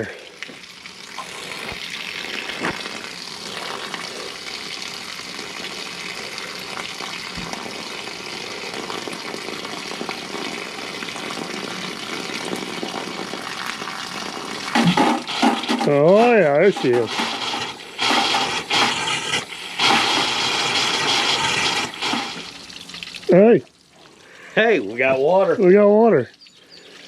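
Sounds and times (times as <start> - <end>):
faucet spitting air and water: 0.0 - 25.4.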